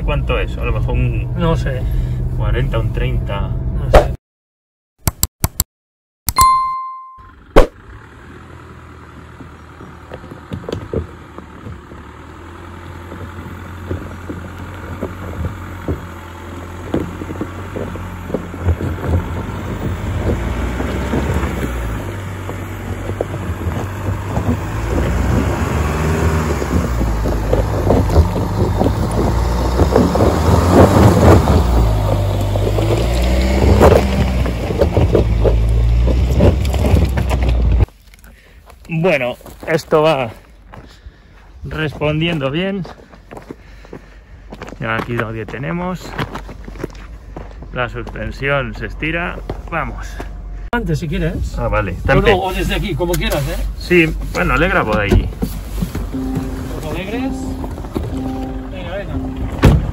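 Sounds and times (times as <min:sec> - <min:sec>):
engine low rumble: 0:00.0 - 0:03.9, 0:07.2 - 0:59.9
tyres crunching over stones: 0:09.0 - 0:50.4, 0:52.1 - 0:59.9.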